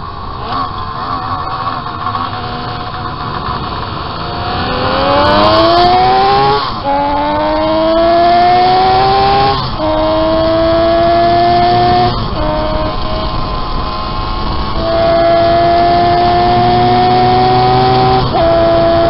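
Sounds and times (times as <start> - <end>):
racing motorcycle engine revving: 0.0 - 19.0.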